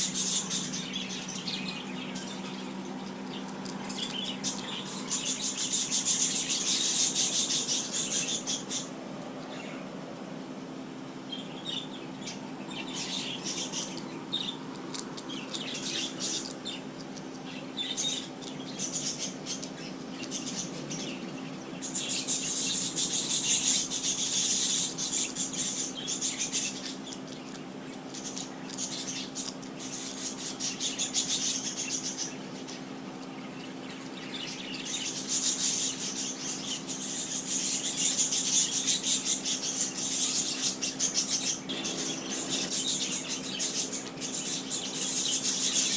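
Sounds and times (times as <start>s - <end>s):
small birds chirping: 0.0s - 45.9s
steady low hum: 0.0s - 45.9s.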